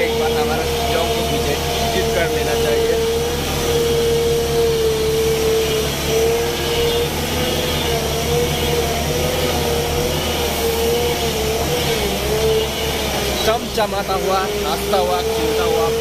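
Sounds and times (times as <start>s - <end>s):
truck engine under load: 0.0s - 16.0s
wavering engine whine: 0.0s - 16.0s.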